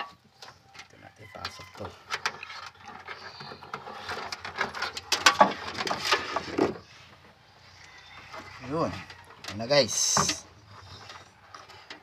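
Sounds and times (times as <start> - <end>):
hands rustling wire and plastic: 0.0 - 12.0
scrapes and knocks: 1.4 - 12.0.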